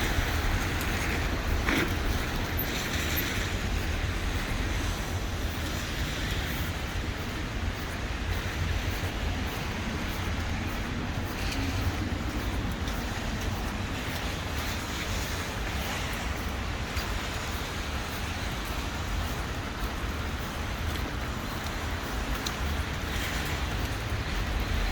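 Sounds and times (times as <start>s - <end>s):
traffic rumble: 0.0s - 24.9s.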